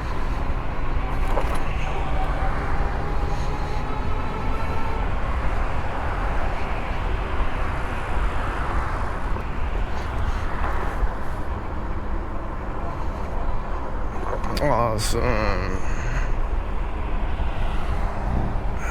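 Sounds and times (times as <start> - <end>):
road noise: 0.0 - 18.9.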